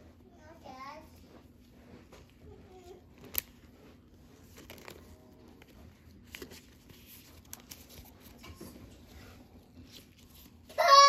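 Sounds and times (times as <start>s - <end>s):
trading cards rustling: 1.1s - 10.7s.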